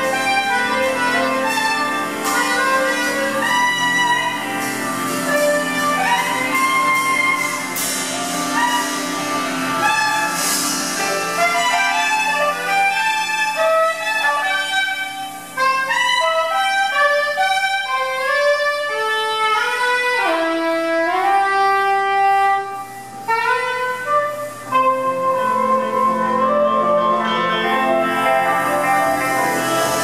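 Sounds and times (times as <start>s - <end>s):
soprano saxophone solo: 0.0s - 30.0s.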